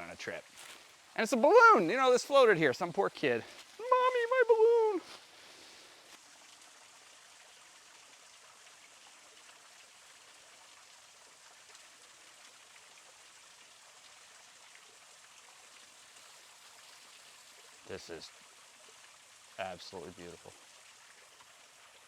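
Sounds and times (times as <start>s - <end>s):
creek water running: 0.0s - 22.0s.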